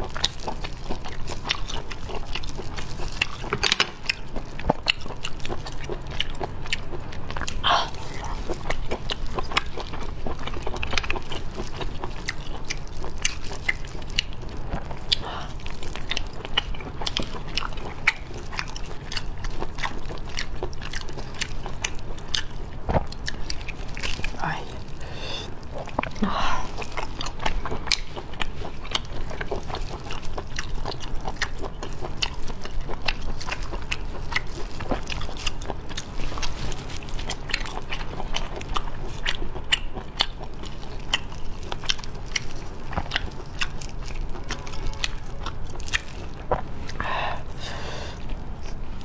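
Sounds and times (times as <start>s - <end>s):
close chewing with wet clicks: 0.0s - 49.0s.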